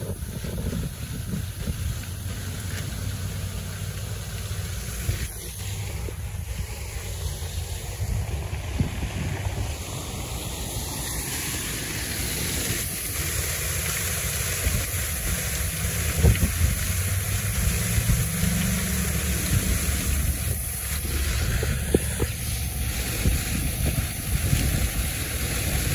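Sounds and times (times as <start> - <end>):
wind buffeting microphone: 0.0 - 3.5, 4.9 - 11.3, 14.3 - 25.9
waterfall rushing into pond: 0.0 - 25.9.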